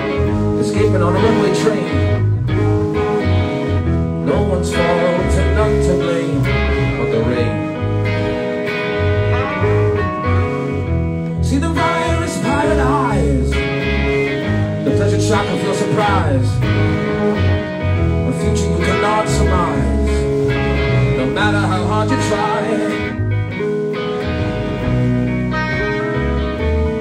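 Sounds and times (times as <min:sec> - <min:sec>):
deep repeated bass notes: 0:00.0 - 0:27.0
live band playing: 0:00.0 - 0:27.0
sliding bending guitar notes: 0:00.0 - 0:27.0.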